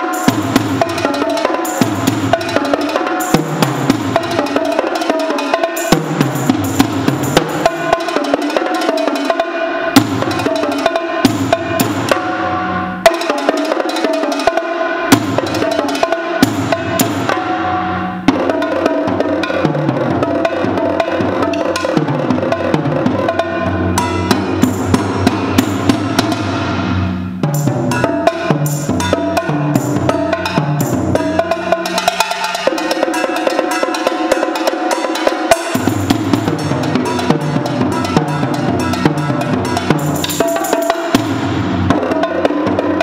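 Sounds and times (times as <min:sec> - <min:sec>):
drums struck with sticks: 0:00.0 - 0:43.0.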